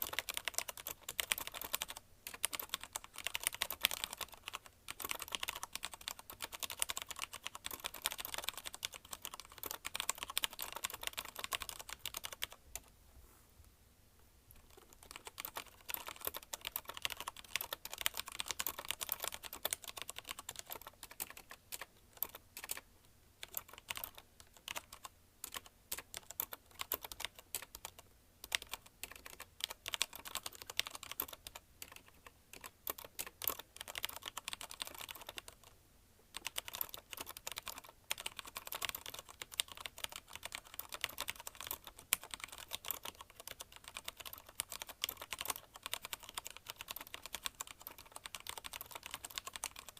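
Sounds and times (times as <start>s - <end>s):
typing on mechanical keyboard: 0.0s - 12.9s, 14.6s - 22.8s, 23.4s - 49.9s.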